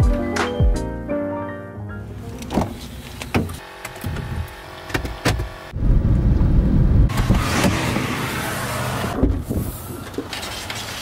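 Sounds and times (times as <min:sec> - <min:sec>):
car engine rumbling: 0:02.0 - 0:11.0.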